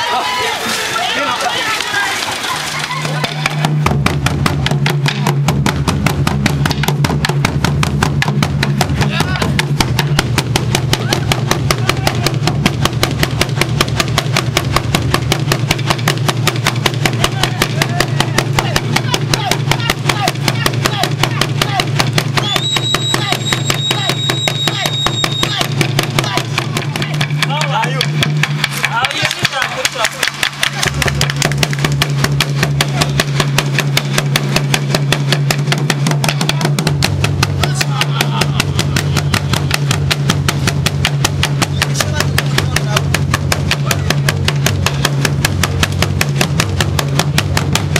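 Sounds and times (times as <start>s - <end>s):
wooden drums beaten fast: 0.0s - 47.9s.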